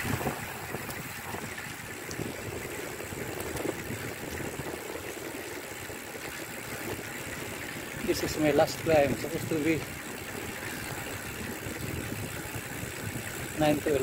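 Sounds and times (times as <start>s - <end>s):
bicycle tyres on wet road: 0.0s - 14.0s.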